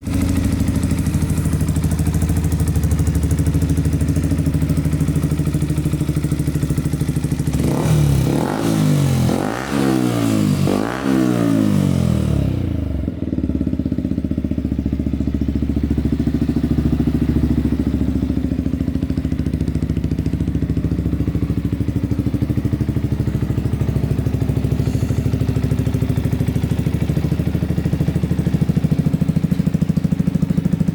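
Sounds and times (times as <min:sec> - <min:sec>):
motorcycle engine idling: 0:00.0 - 0:30.9
motorcycle engine revving: 0:00.0 - 0:30.9.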